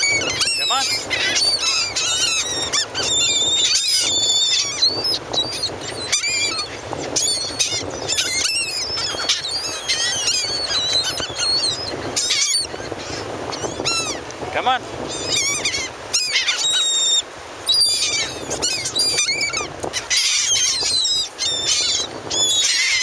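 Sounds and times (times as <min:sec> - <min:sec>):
gulls calling: 0:00.0 - 0:23.0.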